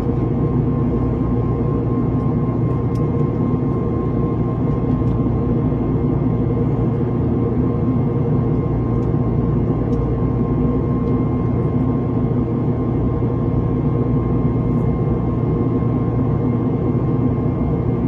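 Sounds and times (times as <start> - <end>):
airplane cabin drone: 0.0 - 18.0
faint constant whine: 0.0 - 18.0.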